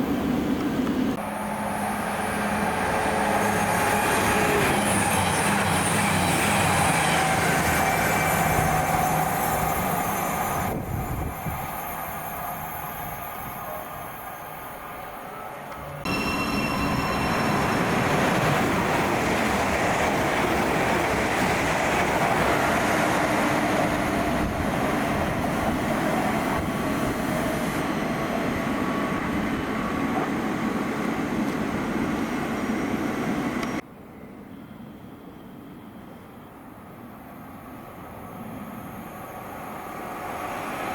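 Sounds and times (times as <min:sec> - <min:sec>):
train wheels rushing on rail: 0:00.0 - 0:33.9, 0:35.2 - 0:40.9.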